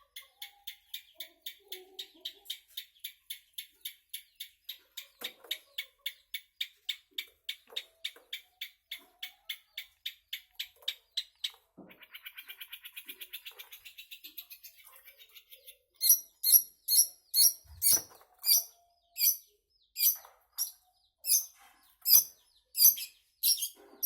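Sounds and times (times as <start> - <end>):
bird chatter: 0.0 - 24.0.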